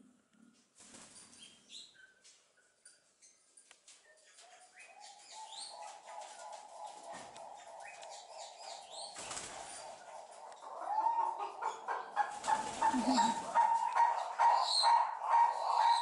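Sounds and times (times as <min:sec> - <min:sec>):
small birds chirping: 0:01.0 - 0:16.0.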